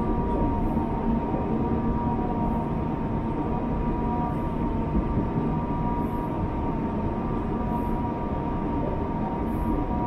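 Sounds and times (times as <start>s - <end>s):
electric train rumbling: 0.0s - 10.0s
train whine: 0.0s - 10.0s.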